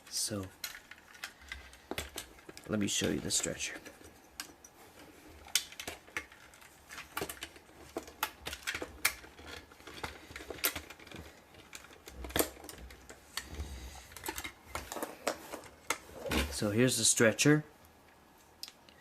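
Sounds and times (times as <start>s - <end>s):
plastic pieces clicking: 0.0s - 4.7s, 5.4s - 16.0s.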